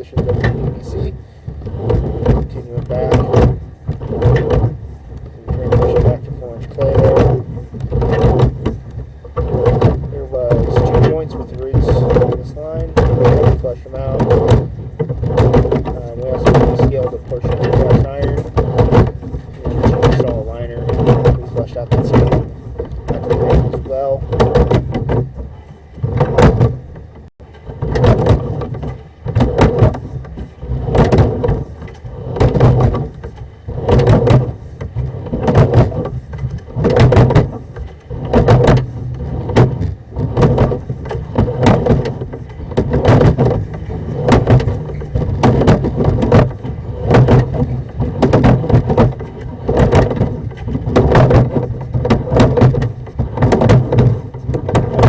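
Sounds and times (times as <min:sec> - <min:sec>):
cable sliding through pipe: 0:00.0 - 0:55.0
steady low hum: 0:00.0 - 0:55.0.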